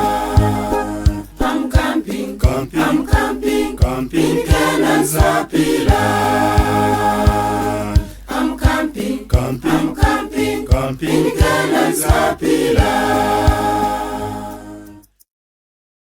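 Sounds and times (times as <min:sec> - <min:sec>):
choir singing gospel in harmony: 0:00.0 - 0:15.0
steady low beat: 0:00.0 - 0:15.0.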